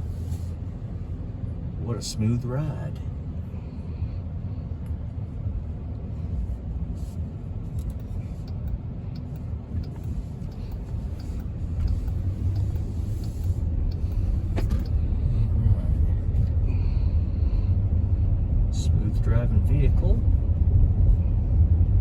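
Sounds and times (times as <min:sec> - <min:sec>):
car engine and road noise in cabin: 0:00.0 - 0:22.0.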